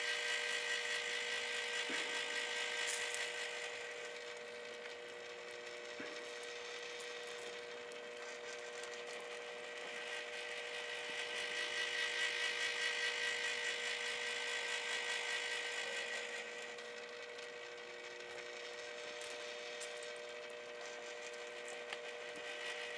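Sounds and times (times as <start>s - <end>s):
rotisserie motor humming: 0.0s - 22.9s.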